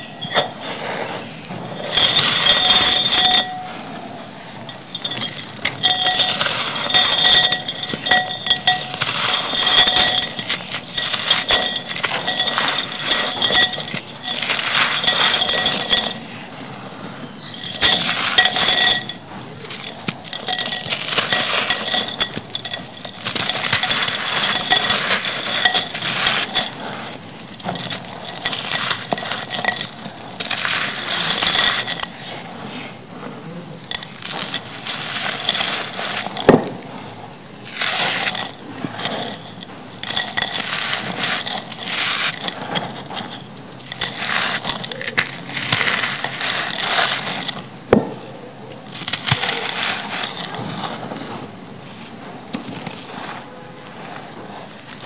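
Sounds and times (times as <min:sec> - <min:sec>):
grit trickling into pot: 0:00.0 - 0:03.9, 0:04.6 - 0:33.0, 0:33.8 - 0:47.8, 0:48.8 - 0:55.0
dry soil crunching: 0:00.0 - 0:55.0.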